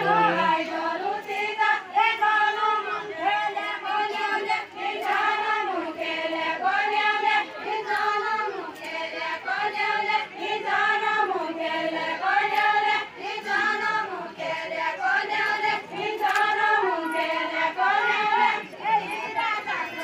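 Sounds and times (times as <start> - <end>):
women singing unaccompanied: 0.0 - 20.0.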